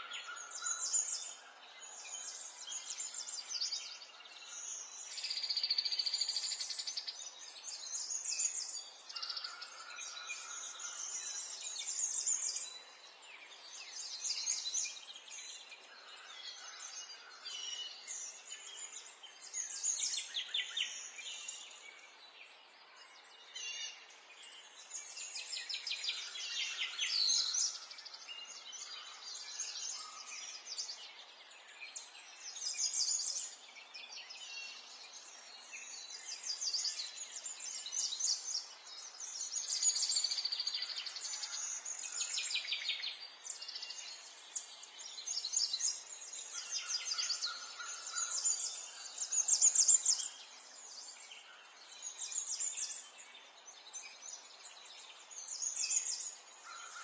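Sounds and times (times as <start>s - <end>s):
faint outdoor hiss: 0.0s - 57.0s
songbirds singing: 0.0s - 57.0s.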